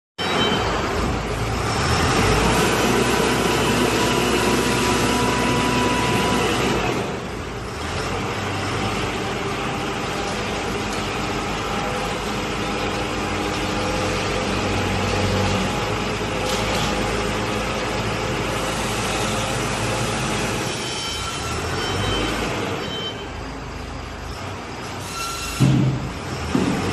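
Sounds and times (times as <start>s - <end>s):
diesel engine running: 0.2s - 25.0s.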